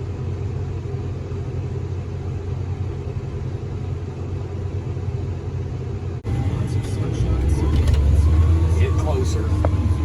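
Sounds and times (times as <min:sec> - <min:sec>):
tractor engine drone: 0:00.0 - 0:10.0.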